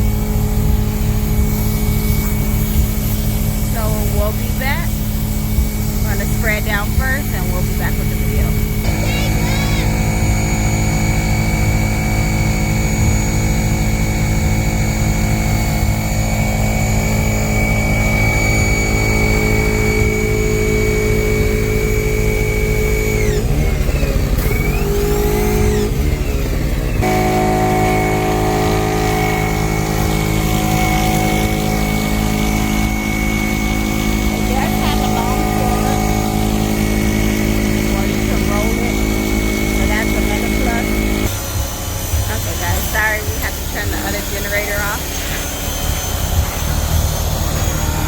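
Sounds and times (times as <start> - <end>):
generator engine running: 0.0 - 48.0
pressure washer spraying: 0.0 - 48.0.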